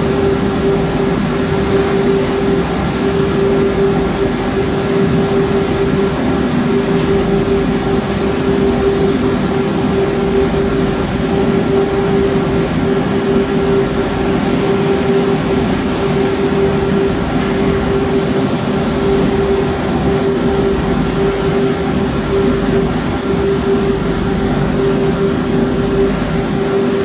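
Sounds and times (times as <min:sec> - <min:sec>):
machine running with hum: 0:00.0 - 0:27.0.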